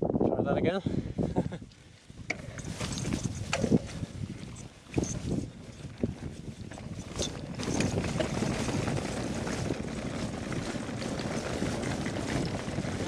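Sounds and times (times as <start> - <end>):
bike rattling over stones: 2.3 - 13.0.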